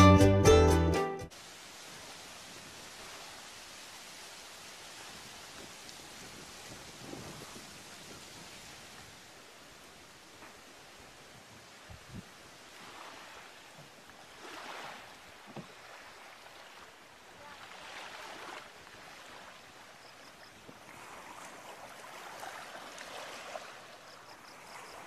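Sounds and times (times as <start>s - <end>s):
waves washing onto beach: 1.3s - 25.0s.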